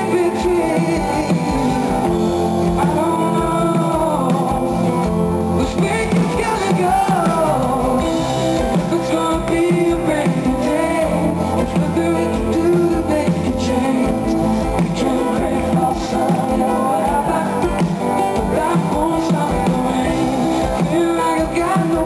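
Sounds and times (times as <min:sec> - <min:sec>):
live pop-rock band: 0:00.0 - 0:22.0
man singing: 0:00.0 - 0:22.0.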